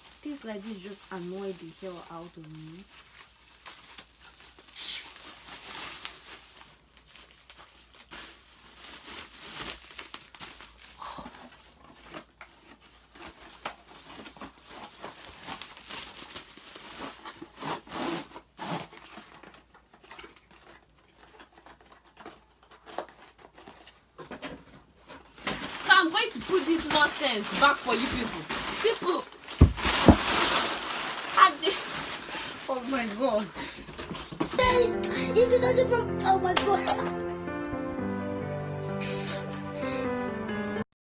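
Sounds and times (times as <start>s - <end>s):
plastic crinkling: 0.0s - 34.8s
cardboard rustling: 0.0s - 34.9s.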